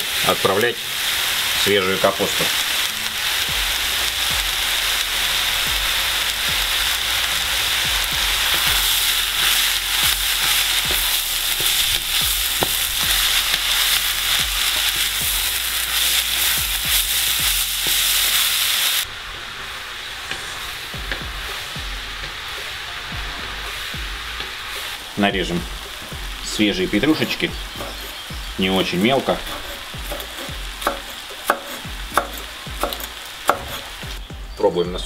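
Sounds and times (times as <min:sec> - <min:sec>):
cabbage sizzling in hot oil: 0:00.0 - 0:34.3.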